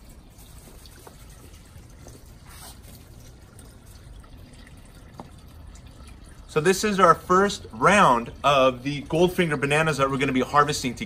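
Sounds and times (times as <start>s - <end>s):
faint water trickle: 0.0s - 11.0s.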